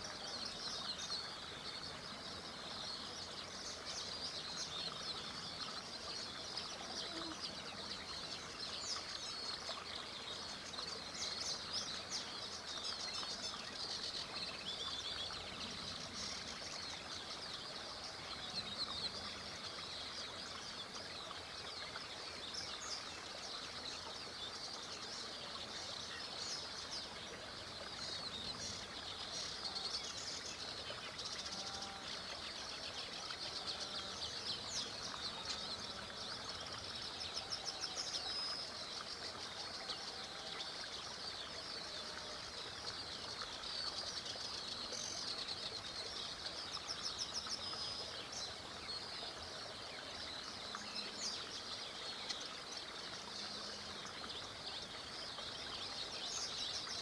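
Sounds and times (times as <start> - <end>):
small river rushing: 0.0 - 57.0
songbirds chirping and trilling: 0.0 - 57.0.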